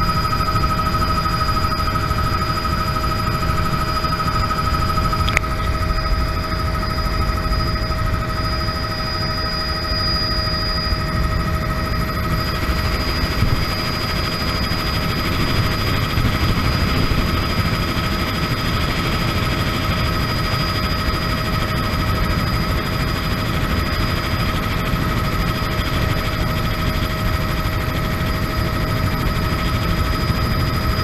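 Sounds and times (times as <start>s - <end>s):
helicopter rotor rumble: 0.0s - 31.0s
turbine engine whine: 0.0s - 31.0s.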